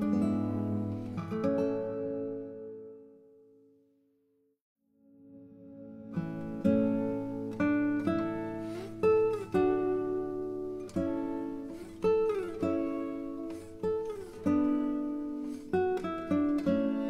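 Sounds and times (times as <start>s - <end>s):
guitar plucking slow notes: 0.0s - 3.4s, 5.0s - 17.0s.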